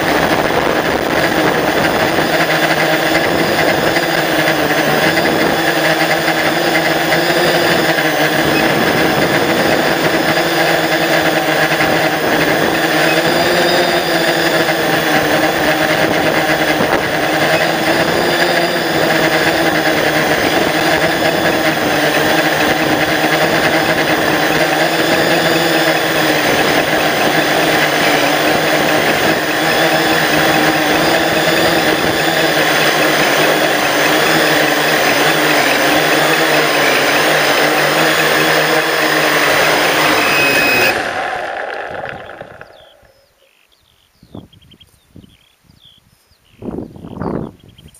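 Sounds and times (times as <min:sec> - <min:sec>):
drone motors buzzing: 0:00.0 - 0:43.7.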